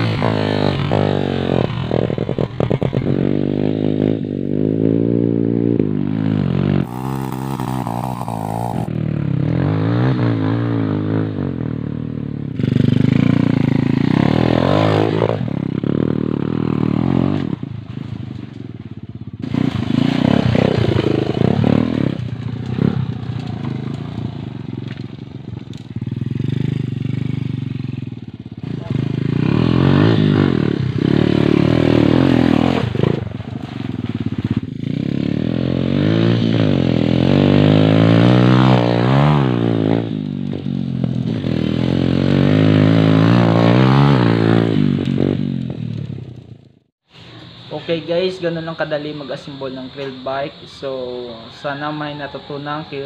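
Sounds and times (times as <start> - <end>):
small motorcycle engine revving: 0.0 - 11.6, 12.5 - 18.2, 19.4 - 53.0.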